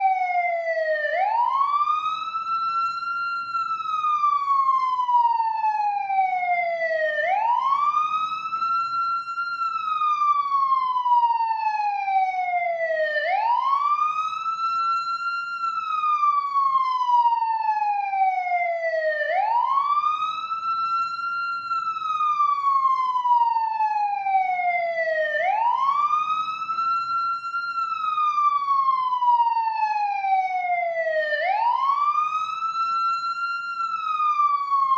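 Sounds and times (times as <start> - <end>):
ambulance siren wailing: 0.0 - 34.9.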